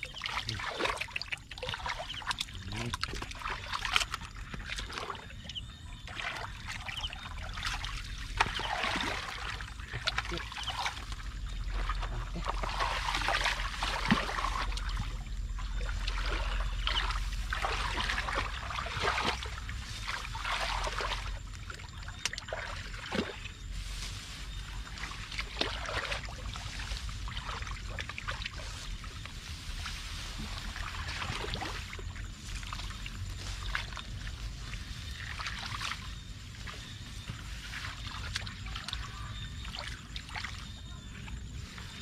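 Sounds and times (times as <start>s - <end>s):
steady low rumble: 0.0s - 42.0s
water splashing and sloshing: 0.0s - 42.0s.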